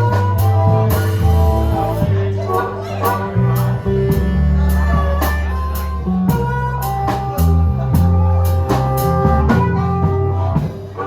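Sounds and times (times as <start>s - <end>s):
drum kit with cymbal strikes: 0.0s - 11.0s
electric bass: 0.0s - 11.0s
lead instrument holding long notes: 0.0s - 11.0s.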